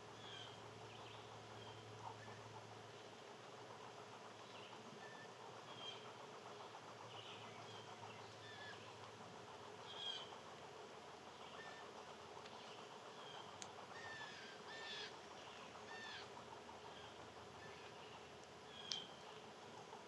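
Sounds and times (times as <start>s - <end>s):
faint background hiss: 0.0s - 20.0s
small birds chirping: 0.0s - 20.0s.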